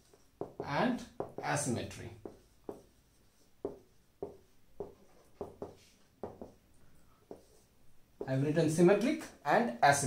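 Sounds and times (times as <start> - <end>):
marker pen writing on whiteboard: 0.0 - 8.5.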